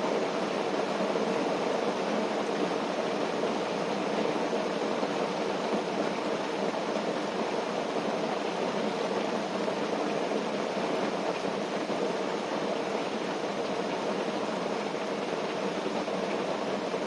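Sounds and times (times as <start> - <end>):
rain and wind on a tent: 0.0 - 17.0.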